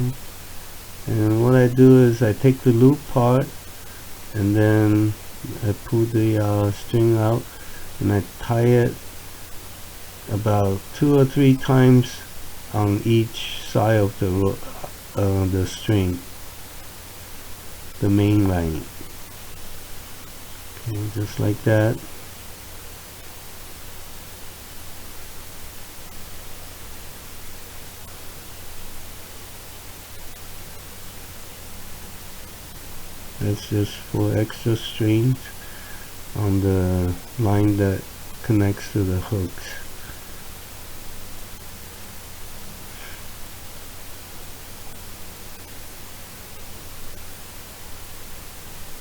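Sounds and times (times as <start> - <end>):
low hum: 0.0 - 47.6
background hiss: 0.0 - 49.0.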